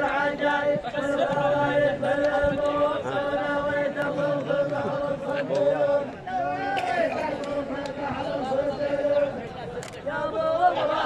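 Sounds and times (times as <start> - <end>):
men chanting in unison: 0.0 - 11.0.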